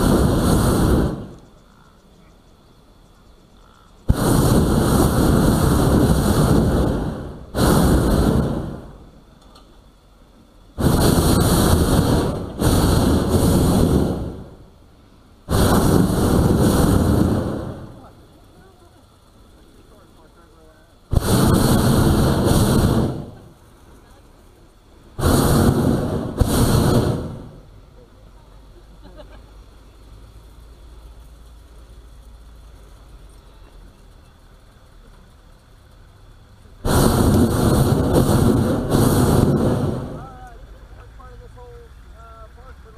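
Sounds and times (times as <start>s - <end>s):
faint low hum: 0.0s - 42.9s
propane burner roaring: 0.0s - 42.9s.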